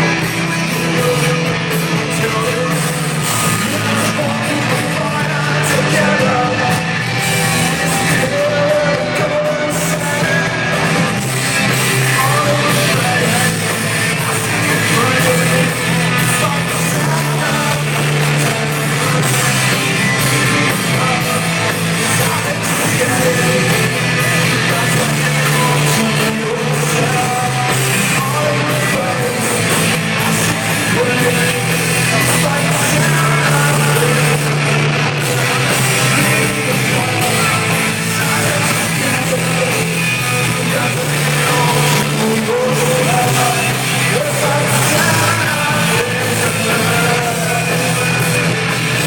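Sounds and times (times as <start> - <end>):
live rock band playing: 0.0 - 49.0
person singing: 0.0 - 49.0.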